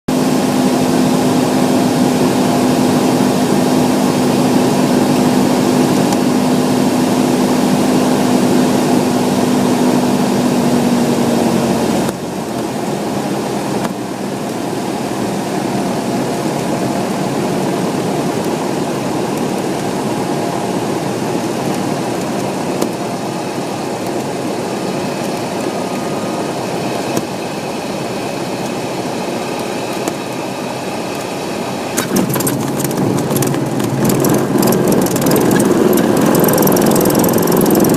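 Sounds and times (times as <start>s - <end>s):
light aircraft engine droning: 0.1s - 37.9s.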